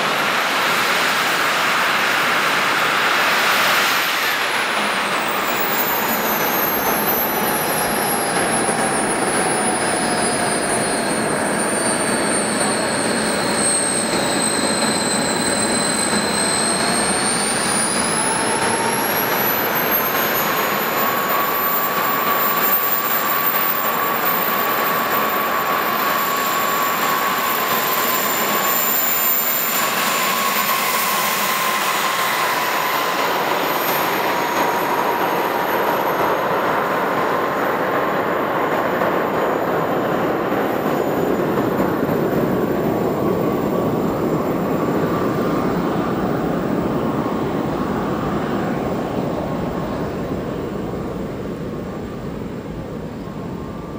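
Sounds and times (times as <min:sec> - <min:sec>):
model jet engines whining: 0:00.0 - 0:53.9.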